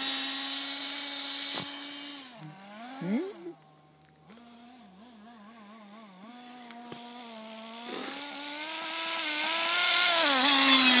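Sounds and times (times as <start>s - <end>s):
toy car motor buzzing: 0.0s - 11.0s.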